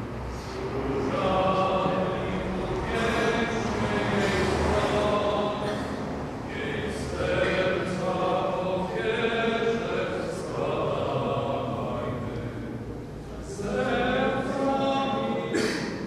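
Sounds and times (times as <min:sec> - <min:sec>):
congregation singing a hymn: 0:00.0 - 0:16.0.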